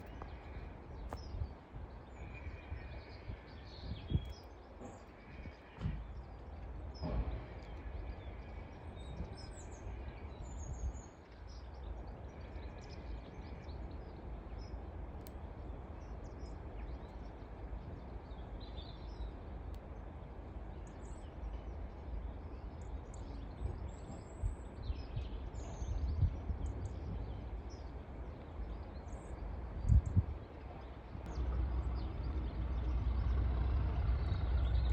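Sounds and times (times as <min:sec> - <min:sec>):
small birds chirping: 0:00.0 - 0:34.9
steady low rumble: 0:00.0 - 0:34.9.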